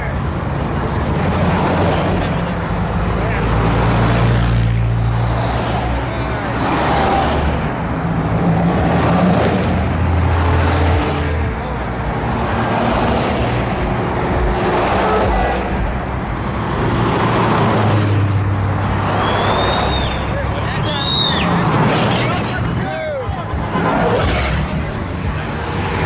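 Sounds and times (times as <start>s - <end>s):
vehicles driving past: 0.0s - 26.0s.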